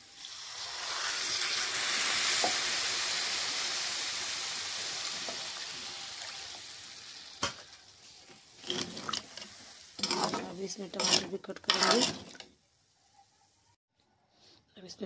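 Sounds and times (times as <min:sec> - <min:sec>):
water sizzling in hot oil: 0:00.0 - 0:12.8.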